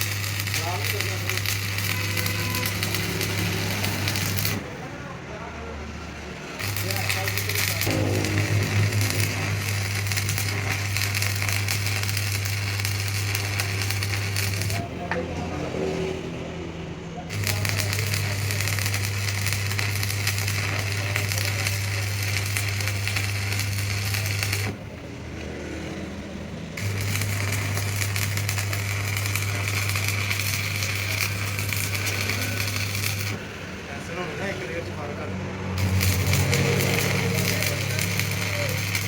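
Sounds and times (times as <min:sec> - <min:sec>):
lathe cutting steel: 0:00.0 - 0:04.8, 0:06.2 - 0:15.1, 0:17.3 - 0:39.0.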